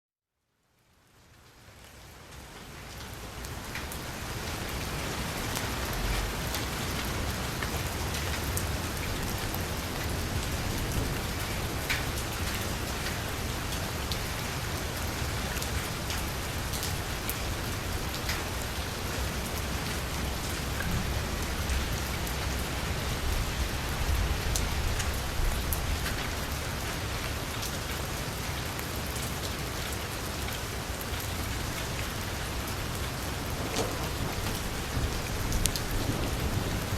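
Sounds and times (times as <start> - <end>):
heavy rain on vehicle roof: 2.0 - 36.9.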